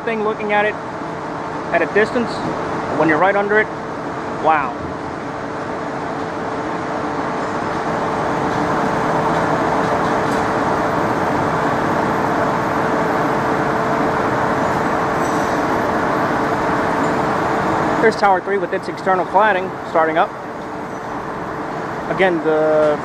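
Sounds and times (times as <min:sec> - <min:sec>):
mechanical rumble and hiss: 0:00.0 - 0:23.0.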